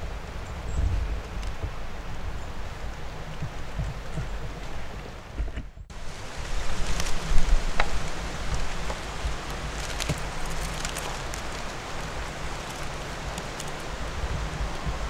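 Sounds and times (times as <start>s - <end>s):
wind noise on microphone: 0.0s - 15.0s.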